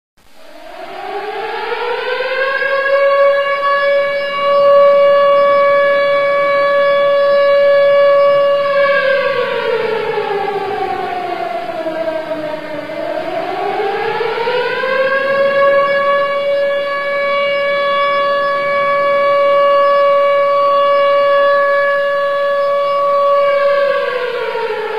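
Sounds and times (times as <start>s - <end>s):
civil defence siren: 0.2s - 24.9s.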